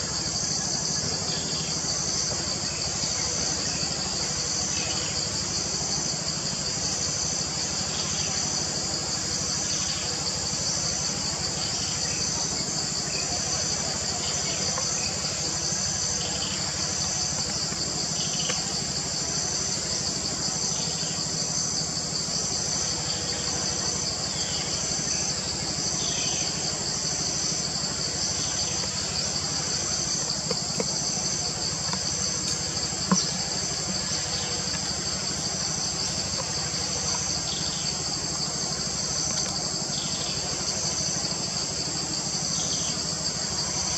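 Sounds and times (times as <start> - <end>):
insect chorus buzzing: 0.0 - 43.9.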